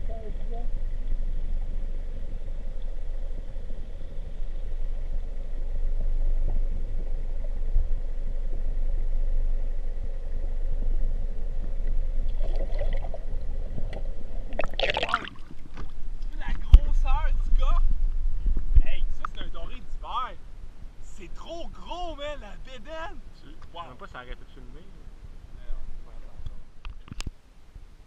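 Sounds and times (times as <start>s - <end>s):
muffled underwater rumble: 0.0s - 27.3s
faint constant hum: 0.0s - 28.0s.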